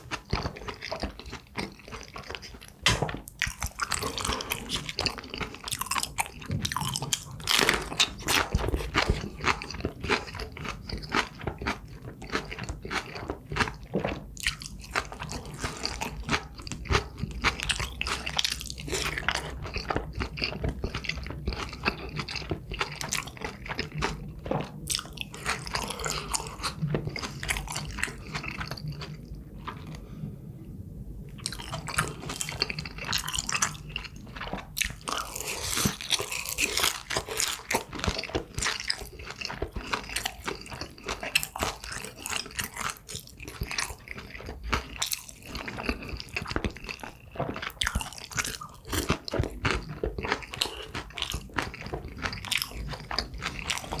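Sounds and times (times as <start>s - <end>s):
crisp crunching and chewing: 0.0s - 30.0s, 31.4s - 54.0s.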